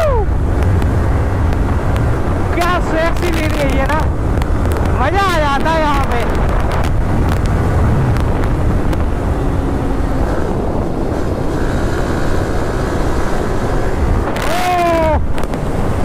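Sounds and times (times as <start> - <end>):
road noise: 0.0 - 16.0
wind rush on microphone: 0.0 - 16.0.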